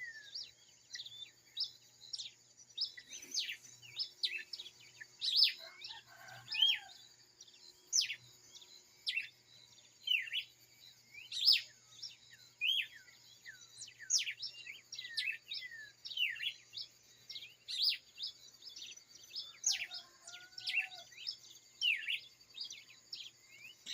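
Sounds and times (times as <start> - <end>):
lower whistled bird call: 0.0 - 7.0, 9.0 - 9.4, 10.0 - 23.9
birds chirping: 0.0 - 23.9.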